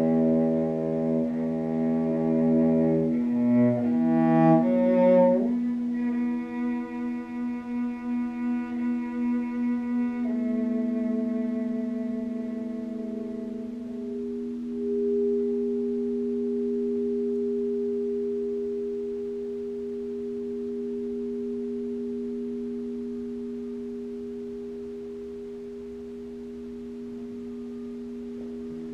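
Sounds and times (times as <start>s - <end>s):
crystal singing bowls ringing: 5.4s - 28.9s.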